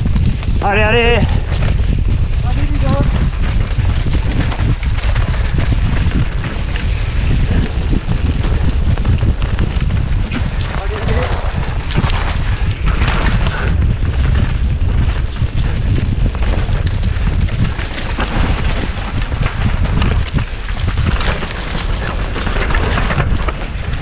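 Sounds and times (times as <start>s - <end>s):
mountain bike clattering on rough trail: 0.0s - 24.0s
wind buffeting microphone: 0.0s - 24.0s.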